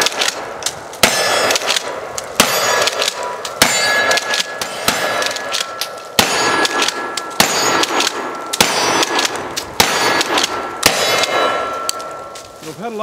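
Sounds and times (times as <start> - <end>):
shotgun shots ringing: 0.0 - 12.4.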